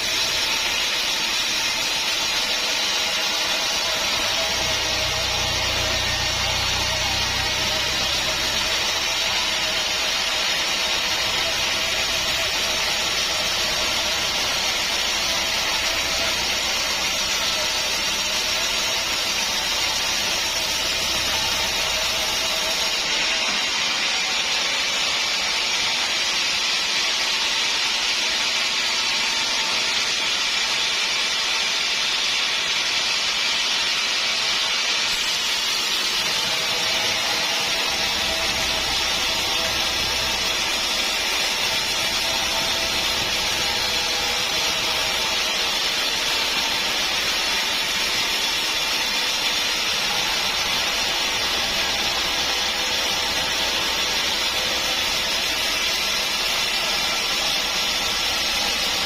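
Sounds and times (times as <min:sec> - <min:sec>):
saw cutting log: 0:00.0 - 0:59.0.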